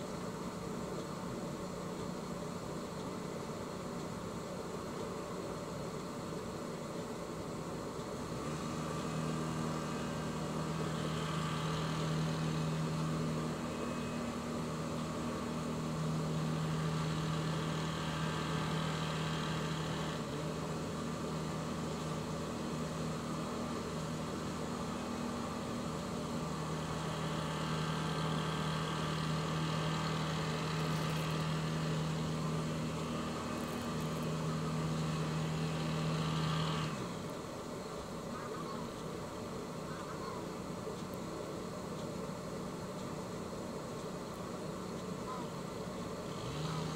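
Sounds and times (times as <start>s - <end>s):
boat engine idling: 0.0s - 46.3s.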